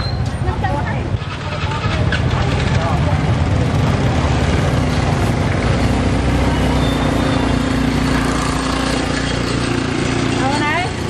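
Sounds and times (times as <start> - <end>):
busy street market noise: 0.0 - 11.0
motorbike engine running: 0.4 - 11.0.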